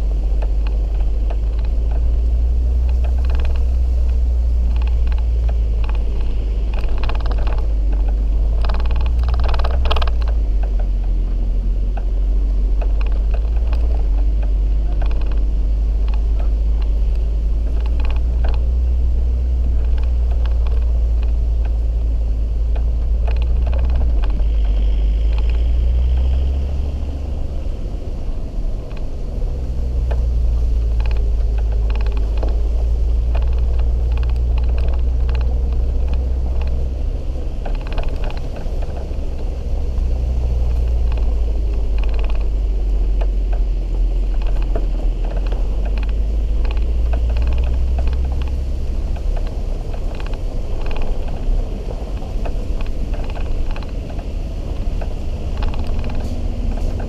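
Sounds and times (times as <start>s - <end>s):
vehicle engine rumbling: 0.0s - 57.0s
vehicle knocking and rattling: 0.0s - 57.0s.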